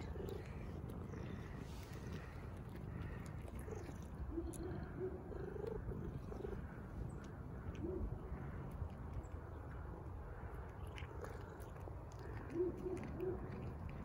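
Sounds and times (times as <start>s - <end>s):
cat chewing dry kibble: 0.0s - 14.0s.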